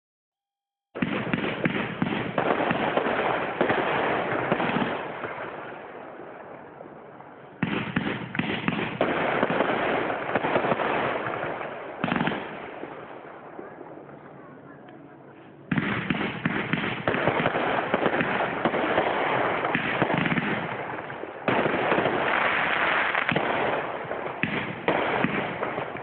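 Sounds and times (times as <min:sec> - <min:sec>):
fireworks popping and crackling: 0:00.9 - 0:05.8, 0:07.6 - 0:13.8, 0:15.7 - 0:26.0.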